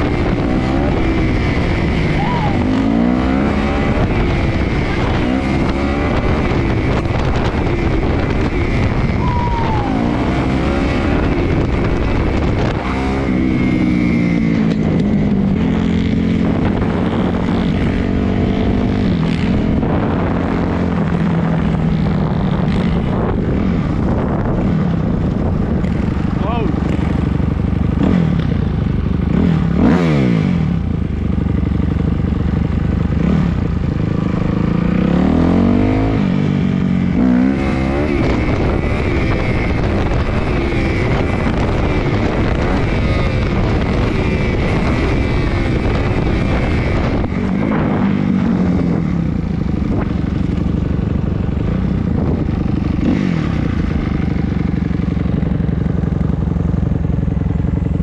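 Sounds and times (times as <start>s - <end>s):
dirt bike engine revving: 0.0s - 30.9s, 33.0s - 56.0s.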